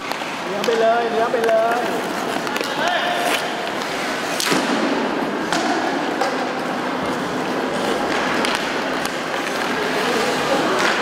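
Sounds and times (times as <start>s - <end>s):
hockey sticks clacking on puck: 0.0s - 4.8s, 5.4s - 11.0s
skate blades scraping ice: 0.0s - 5.6s, 6.5s - 11.0s.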